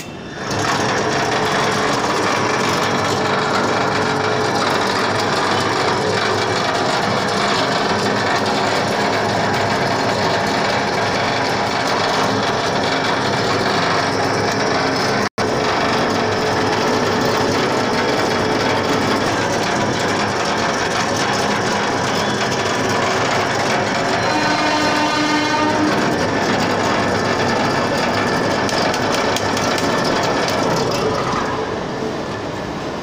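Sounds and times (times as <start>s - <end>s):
machinery rattling and whirring: 0.0s - 33.0s.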